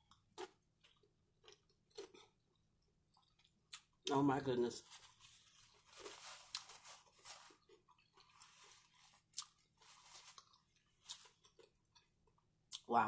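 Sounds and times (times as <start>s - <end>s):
chewing crunchy chips: 0.1s - 4.1s, 5.6s - 12.9s.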